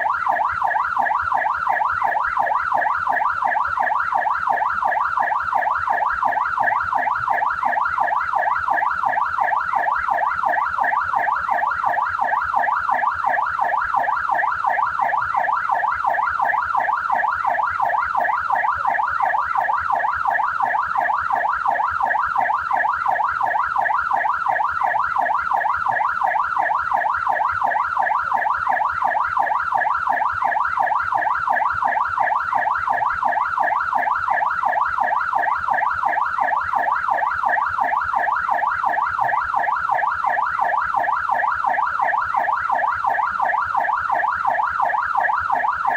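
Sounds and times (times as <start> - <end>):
police siren yelping: 0.0 - 45.9.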